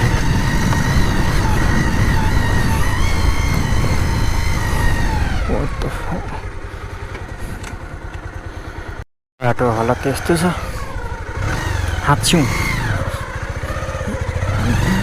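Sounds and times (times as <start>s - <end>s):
motorcycle engine running: 0.0s - 15.0s
road rumble: 0.0s - 15.0s.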